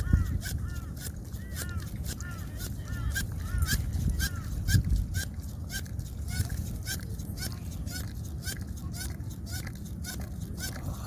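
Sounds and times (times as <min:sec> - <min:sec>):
hand pump squeaking: 0:00.0 - 0:11.0.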